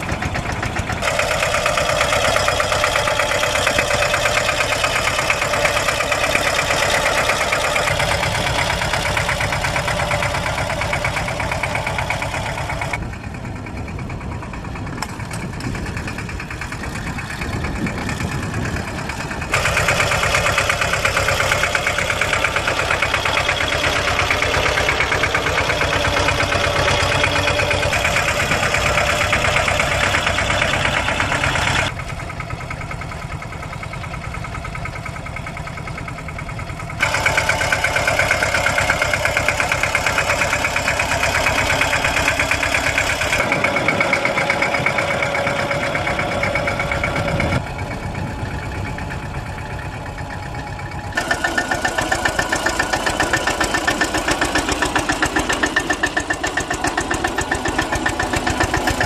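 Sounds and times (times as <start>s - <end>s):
diesel tractor engine knocking: 0.0s - 59.0s.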